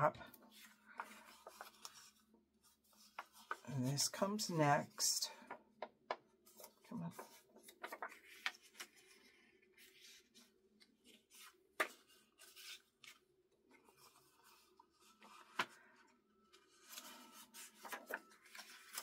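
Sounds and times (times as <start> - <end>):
paper rustling: 0.3 - 4.2, 6.5 - 19.0.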